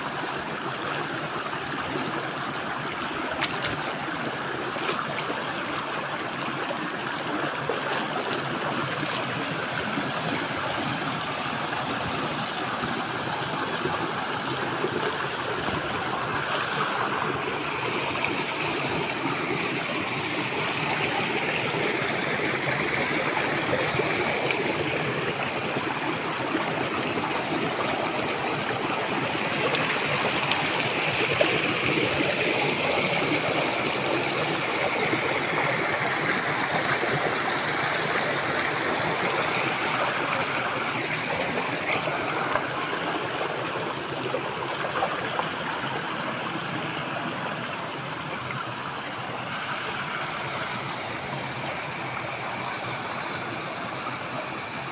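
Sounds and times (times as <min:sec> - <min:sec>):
stream rushing over stones: 0:00.0 - 0:54.9.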